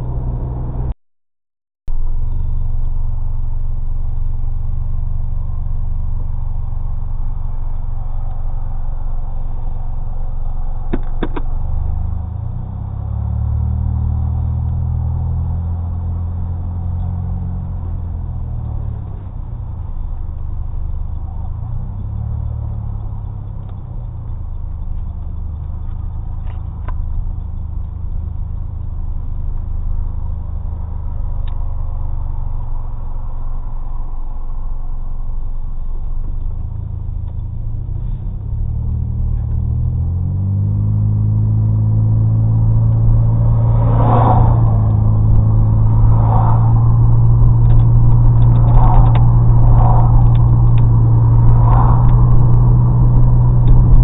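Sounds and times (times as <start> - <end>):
car engine and exhaust drone: 0.0 - 1.0, 1.9 - 54.0.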